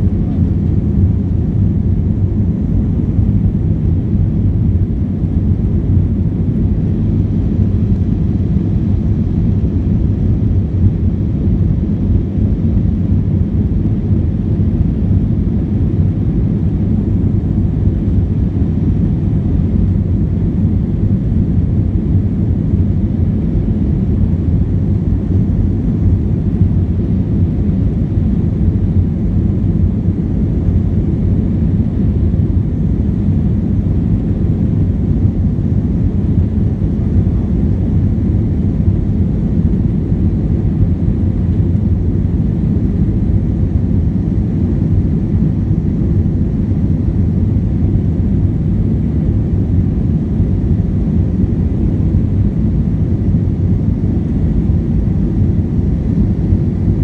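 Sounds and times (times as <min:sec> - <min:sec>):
jet airliner cabin rumble: 0:00.0 - 0:57.0.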